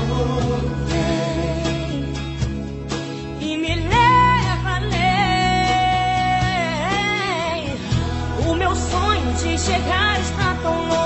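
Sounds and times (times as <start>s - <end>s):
person singing worship song: 0.0s - 2.2s, 3.5s - 11.0s
instrumental backing: 0.0s - 11.0s.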